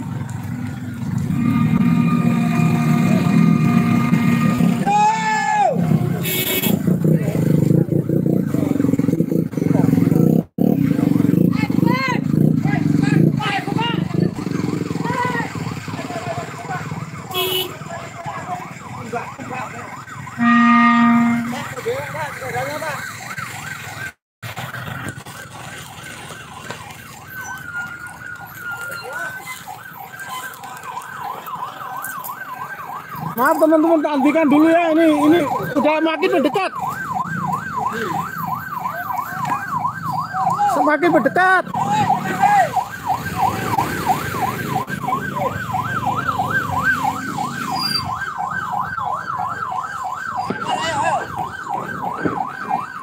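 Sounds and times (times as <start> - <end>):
siren yelping: 0.7 - 10.4, 12.8 - 24.2, 25.0 - 53.0.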